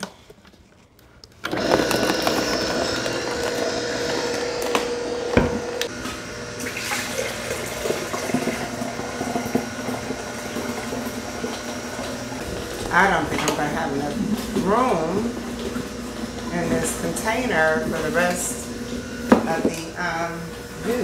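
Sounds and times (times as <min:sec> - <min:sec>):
juicer motor running: 0:01.4 - 0:21.0
juice streaming into pitcher: 0:01.5 - 0:19.7.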